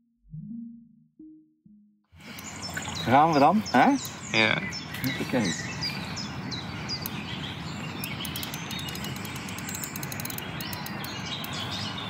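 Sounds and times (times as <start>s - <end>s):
outdoor background hiss: 2.2s - 12.0s
small birds chirping: 2.2s - 12.0s.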